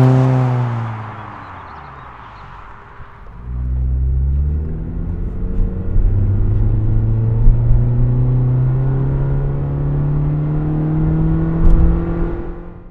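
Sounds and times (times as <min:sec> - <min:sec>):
car engine accelerating: 0:00.0 - 0:12.9.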